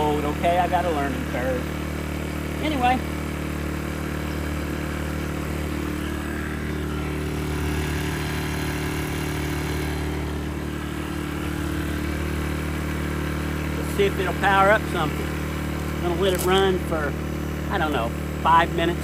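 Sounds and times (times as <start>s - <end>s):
generator running: 0.0s - 19.0s.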